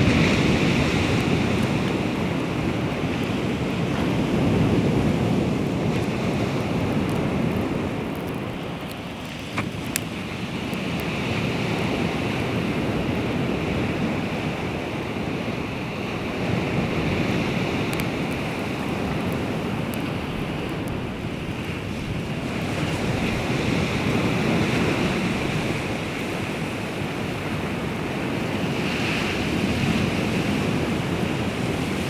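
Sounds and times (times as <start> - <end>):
waves washing onto shore: 0.0 - 32.0
wind buffeting microphone: 0.0 - 32.0.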